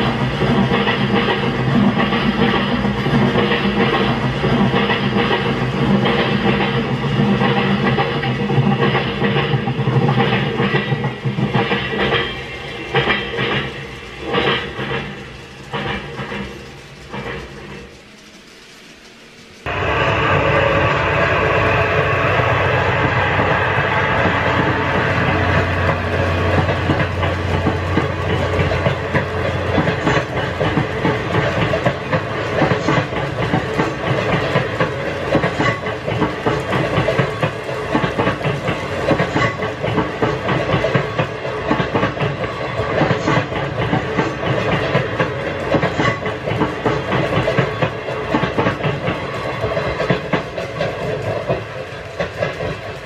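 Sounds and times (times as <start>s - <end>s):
wheels clicking over rail joints: 0.0s - 19.8s, 22.2s - 53.0s
locomotive engine hum: 0.0s - 53.0s
train wheel rumble: 0.0s - 53.0s.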